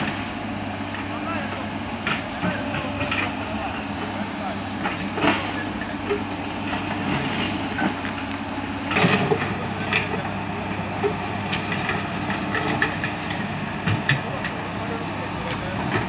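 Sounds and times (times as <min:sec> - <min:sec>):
excavator diesel engine running: 0:00.0 - 0:16.0
steel tracks and bucket clanking: 0:00.0 - 0:16.0.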